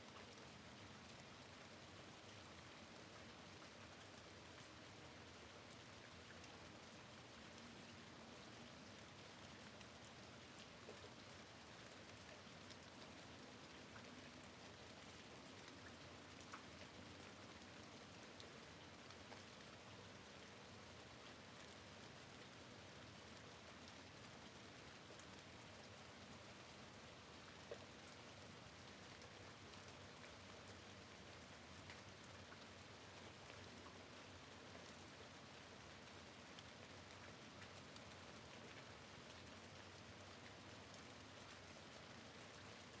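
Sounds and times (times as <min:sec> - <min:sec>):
faint rain at a window: 0:00.0 - 0:43.0.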